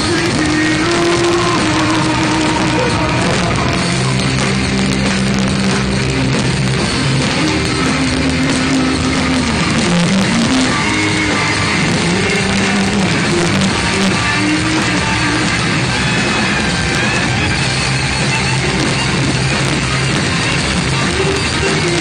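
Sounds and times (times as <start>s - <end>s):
electric guitar: 0.0s - 22.0s
live rock band playing: 0.0s - 22.0s.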